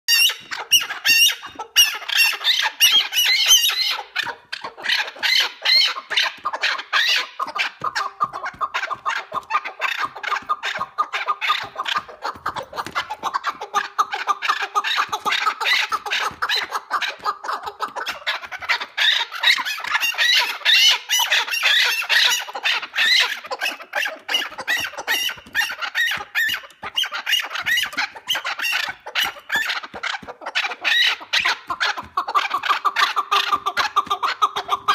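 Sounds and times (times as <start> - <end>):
partridge calling: 0.1 - 34.9.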